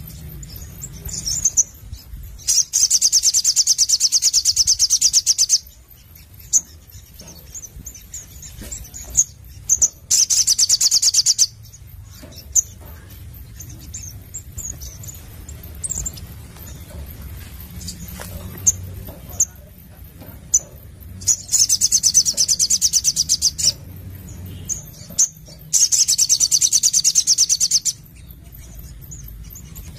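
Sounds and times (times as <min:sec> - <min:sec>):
bird rattling trill: 0:00.0 - 0:29.9.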